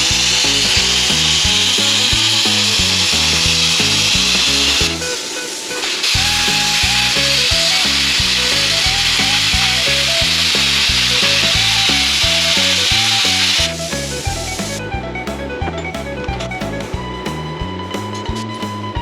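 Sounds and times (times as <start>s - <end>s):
background music with bass line: 0.0s - 5.2s, 6.2s - 19.0s.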